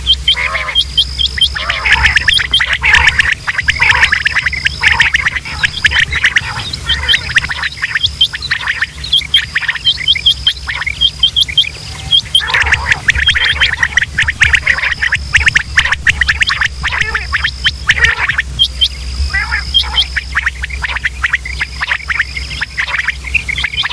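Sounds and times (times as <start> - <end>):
quail calling: 0.0 - 23.9
thin high whine: 0.0 - 23.9.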